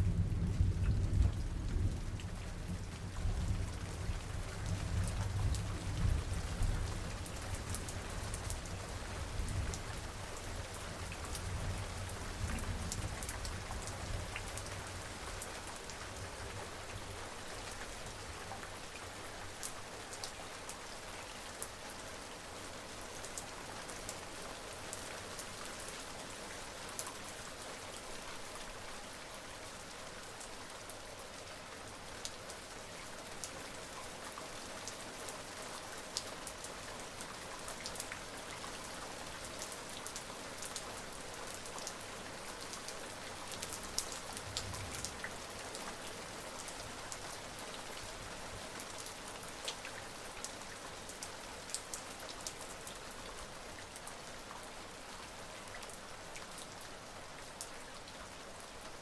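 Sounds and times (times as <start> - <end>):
raindrops ticking on a surface: 0.0 - 59.0
steady rain hiss: 0.0 - 59.0.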